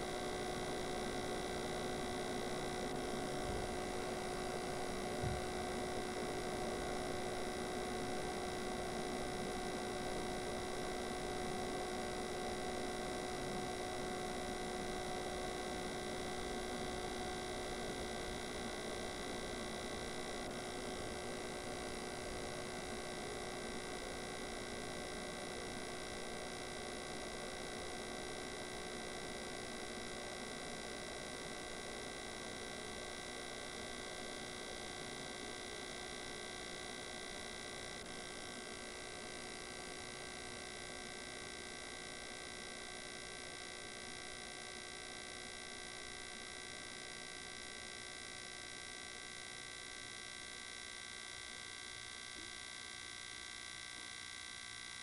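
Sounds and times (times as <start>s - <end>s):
steady hum of held tones: 0.0s - 55.0s.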